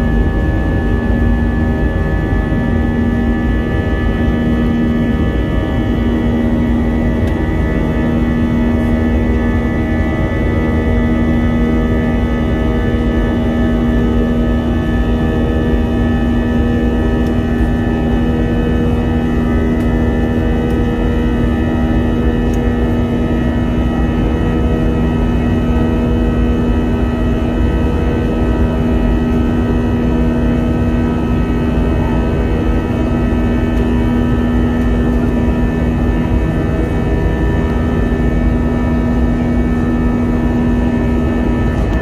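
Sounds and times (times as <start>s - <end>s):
airliner cabin hum: 0.0s - 42.0s
engine and airflow rumble: 0.0s - 42.0s.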